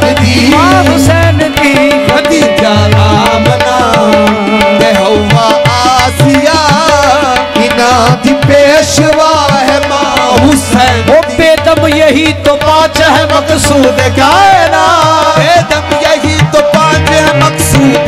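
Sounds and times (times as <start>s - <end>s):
harmonium melody: 0.0s - 18.0s
person singing ornamented runs: 0.0s - 18.0s
tabla beat: 0.0s - 18.0s.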